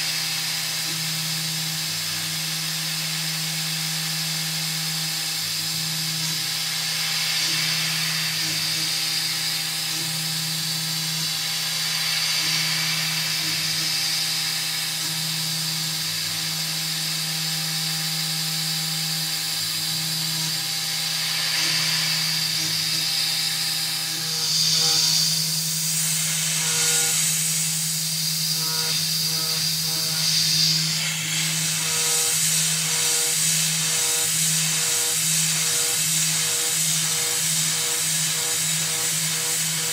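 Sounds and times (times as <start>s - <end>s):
mill spindle cutting metal: 0.0s - 39.9s
mist coolant hiss: 0.0s - 39.9s.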